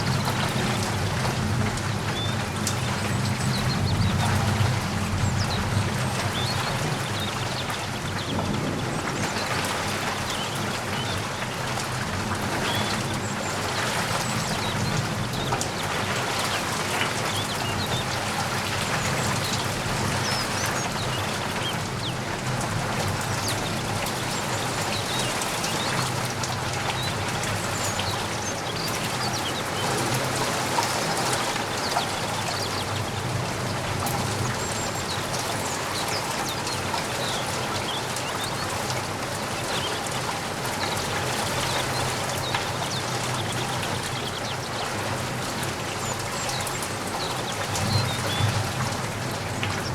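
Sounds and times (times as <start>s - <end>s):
rain drops pattering: 0.0s - 49.9s.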